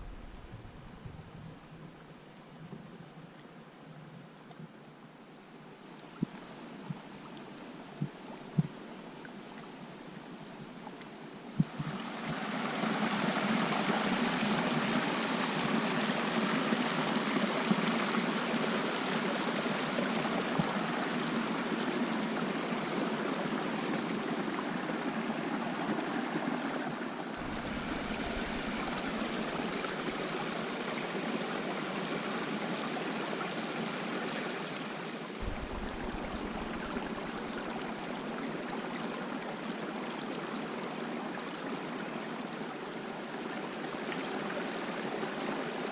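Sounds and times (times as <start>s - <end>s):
stream rushing: 0.0s - 2.2s, 8.7s - 45.9s.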